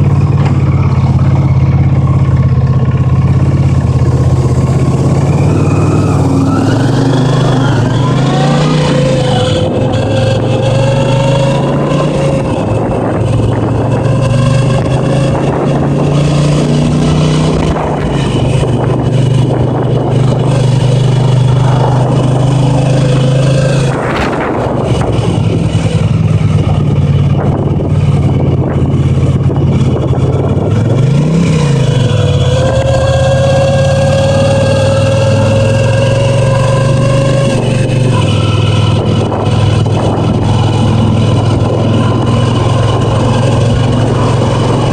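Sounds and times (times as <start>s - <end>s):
motorcycle engine running: 0.0s - 44.9s
thin gauge whine: 0.0s - 44.9s.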